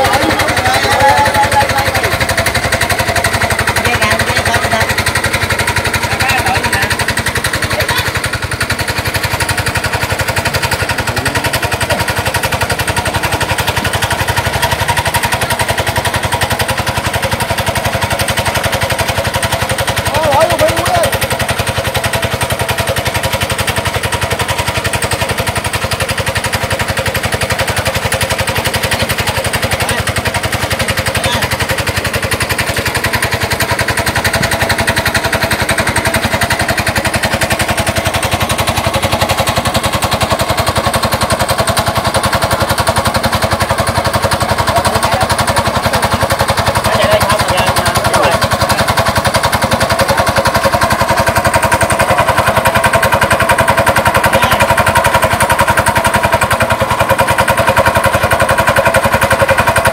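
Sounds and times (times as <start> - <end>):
small pump engine running: 0.0 - 59.9.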